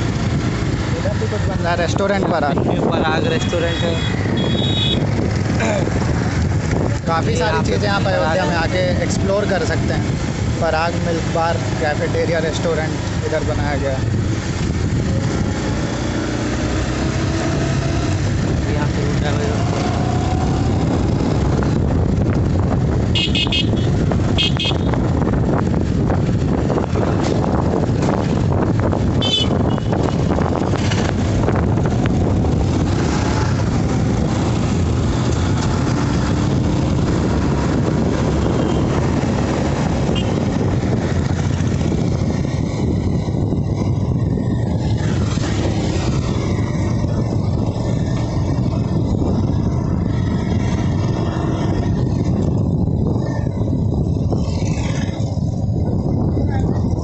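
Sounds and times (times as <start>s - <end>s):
motorbike engine and road noise: 0.0s - 57.0s.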